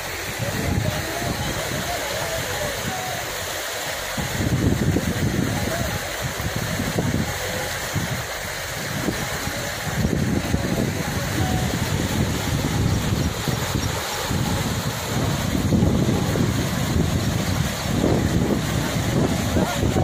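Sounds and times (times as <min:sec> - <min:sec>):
wind gusting on microphone: 0:00.0 - 0:03.2, 0:04.1 - 0:20.0
floodwater rushing: 0:00.0 - 0:20.0.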